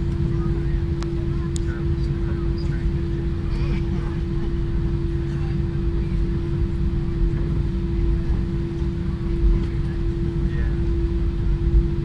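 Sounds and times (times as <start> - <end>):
engine and cabin hum: 0.0 - 12.0.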